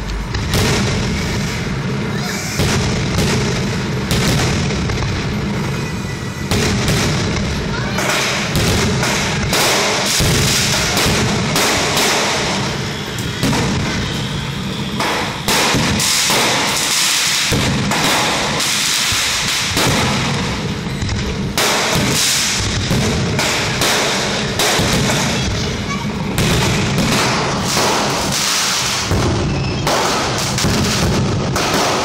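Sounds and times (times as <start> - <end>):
firework shells bursting: 0.0 - 32.0.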